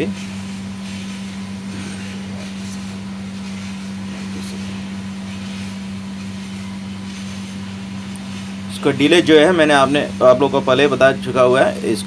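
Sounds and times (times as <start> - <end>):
electrical contactor hum: 0.0 - 12.0.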